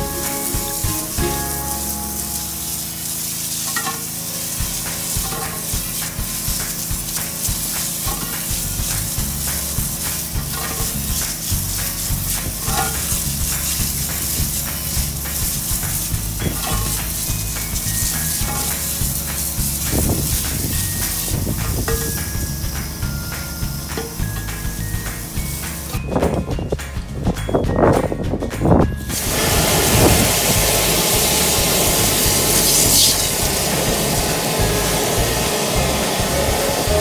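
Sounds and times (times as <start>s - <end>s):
pressure washer jet hissing: 0.0s - 26.1s, 29.1s - 37.0s
water splashing: 0.0s - 26.1s, 29.1s - 34.9s.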